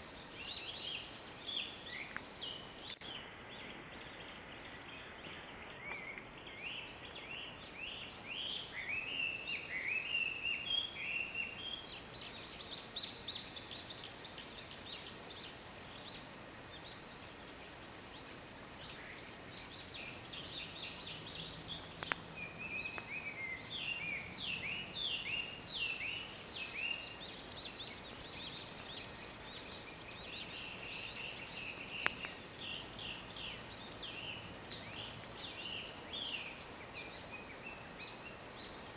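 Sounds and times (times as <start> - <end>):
steady high hiss: 0.0 - 38.9
wild birds calling and singing: 0.0 - 38.9.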